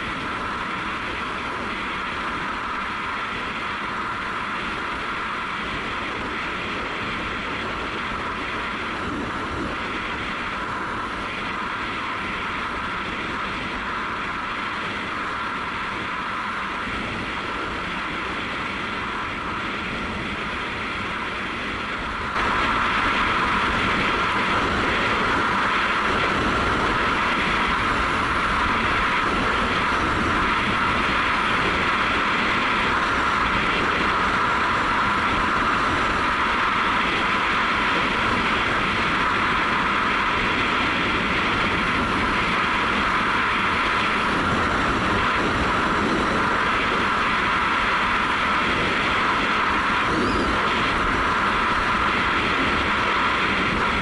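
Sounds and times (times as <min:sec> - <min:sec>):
wind rushing past: 0:00.0 - 0:54.0.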